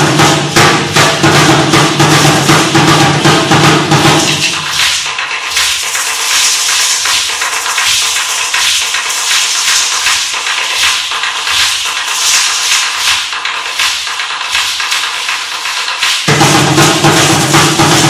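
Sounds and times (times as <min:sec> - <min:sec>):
drum beating: 0:00.0 - 0:18.0.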